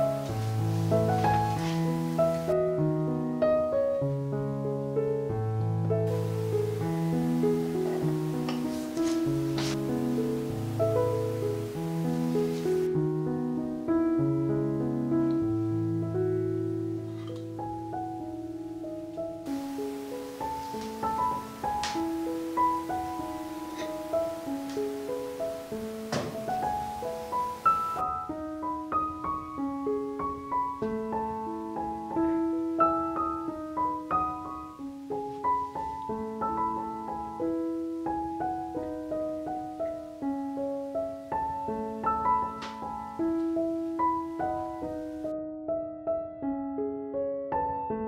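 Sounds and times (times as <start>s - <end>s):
solo piano melody: 0.0s - 48.0s.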